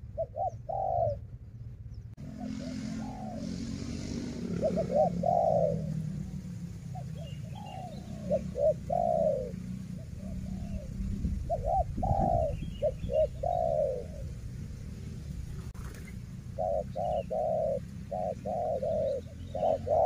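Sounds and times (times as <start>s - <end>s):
doves cooing: 0.0s - 20.0s
low steady rumble: 0.0s - 20.0s.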